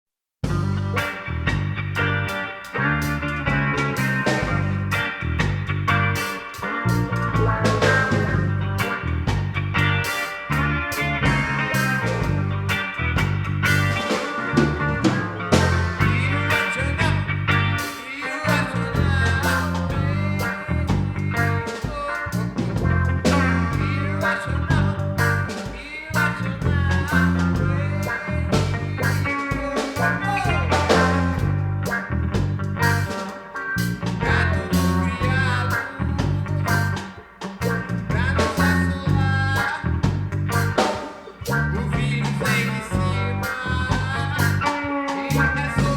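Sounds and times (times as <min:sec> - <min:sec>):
band playing instrumental: 0:00.4 - 0:45.9.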